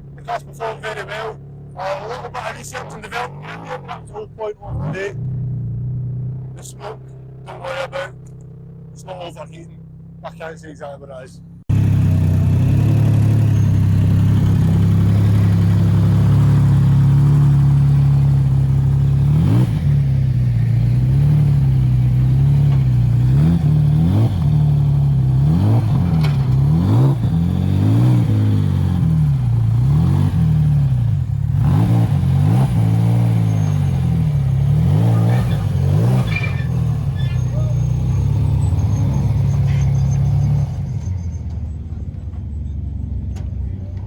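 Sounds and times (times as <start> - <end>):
rally car engine revving: 0.0 - 10.3, 11.7 - 44.0.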